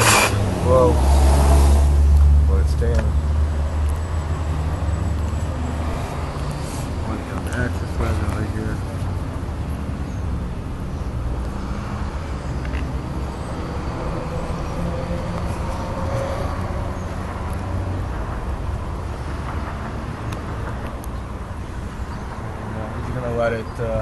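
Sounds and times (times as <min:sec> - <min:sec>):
vehicle passing by: 0:00.0 - 0:10.0, 0:11.2 - 0:23.6
traffic rumble: 0:00.0 - 0:24.0.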